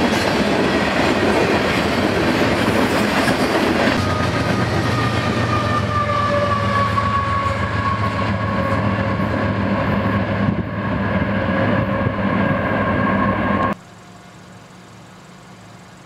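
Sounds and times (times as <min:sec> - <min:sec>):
train wheels rumbling on rail: 0:00.0 - 0:13.8
diesel locomotive hum: 0:00.0 - 0:16.0.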